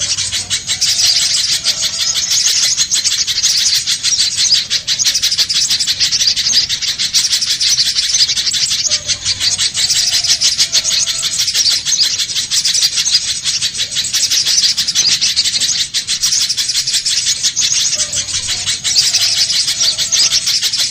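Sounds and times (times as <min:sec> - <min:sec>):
bird chipping calls: 0:00.0 - 0:20.9.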